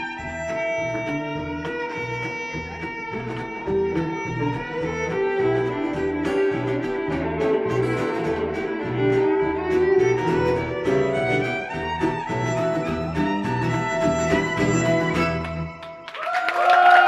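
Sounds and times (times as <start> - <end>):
pulsing bass line: 0.0 - 15.8
live band playing: 0.0 - 16.0
violin melody: 0.0 - 16.1.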